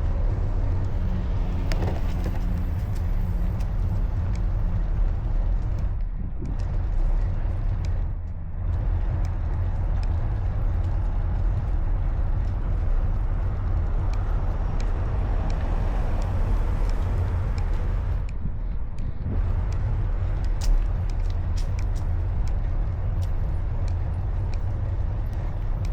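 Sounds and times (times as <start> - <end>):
bicycle road noise: 0.0 - 25.9
wind on microphone: 0.0 - 25.9.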